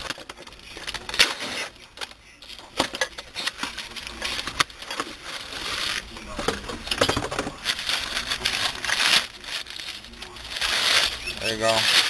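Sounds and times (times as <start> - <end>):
cardboard and plastic crinkling: 0.0 - 12.0.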